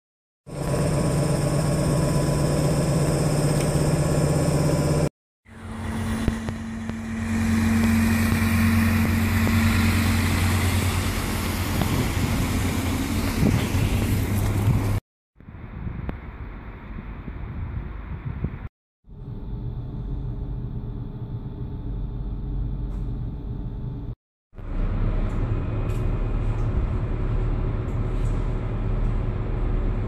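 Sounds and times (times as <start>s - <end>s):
stationary train hum: 0.5s - 18.3s, 19.1s - 30.0s
diesel railcar engine drone: 0.5s - 30.0s.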